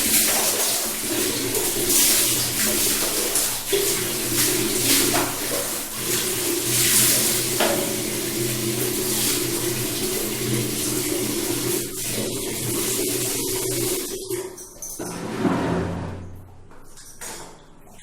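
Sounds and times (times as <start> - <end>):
tap water running and splashing: 0.0 - 15.1.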